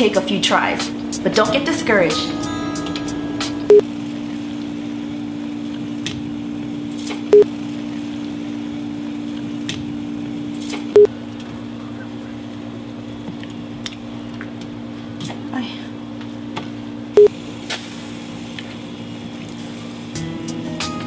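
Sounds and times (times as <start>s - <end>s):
electronic hum: 1.0s - 15.2s, 16.0s - 21.0s.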